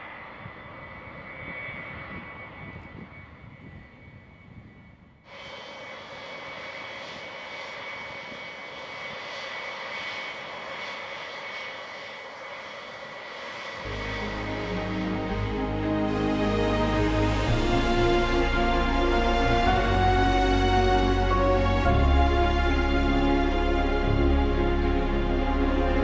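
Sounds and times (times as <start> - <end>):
jet engines running with high whine: 0.0 - 26.0.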